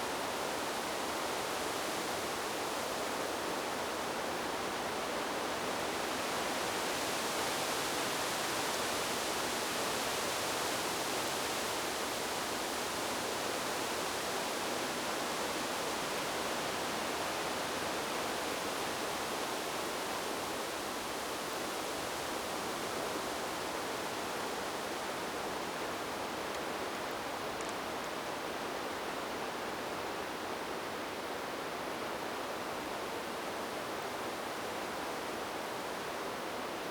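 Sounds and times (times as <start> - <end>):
wind blowing through leaves: 0.0 - 36.9.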